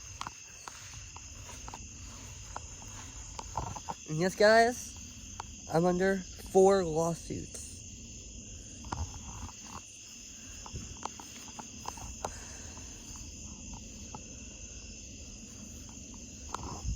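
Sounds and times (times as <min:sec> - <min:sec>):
crickets chirping: 0:00.0 - 0:16.9.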